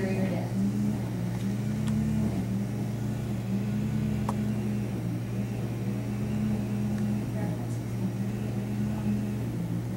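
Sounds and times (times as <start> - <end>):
low room hum: 0.0 - 9.9.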